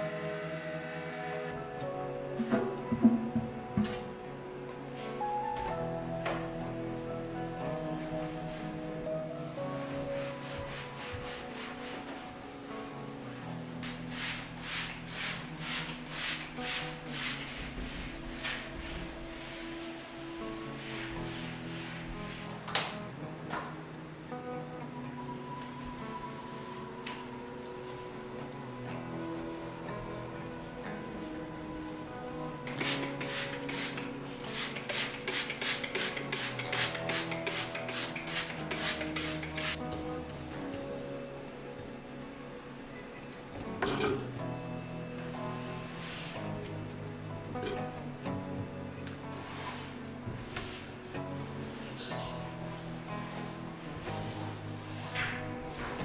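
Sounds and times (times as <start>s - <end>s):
soft background music: 0.0s - 56.0s
cloth wiping a wooden door: 1.6s - 23.2s, 25.8s - 56.0s.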